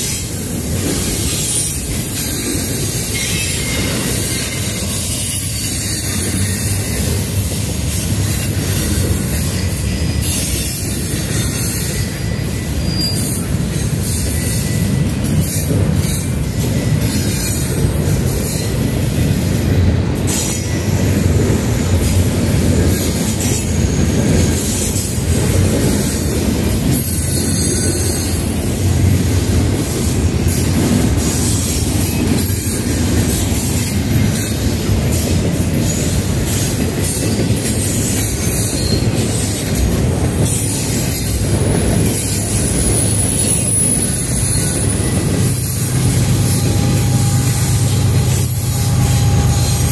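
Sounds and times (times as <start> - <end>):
high wheel squeal: 0.0 - 19.4, 20.3 - 49.9
train wheels rumbling on rails: 0.0 - 49.9.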